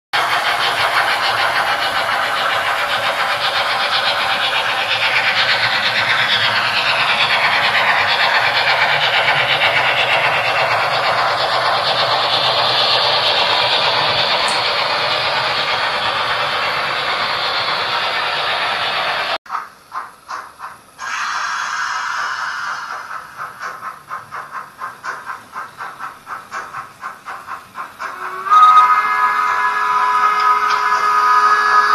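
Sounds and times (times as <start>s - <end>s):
model train whirring and clattering: 0.2s - 31.9s.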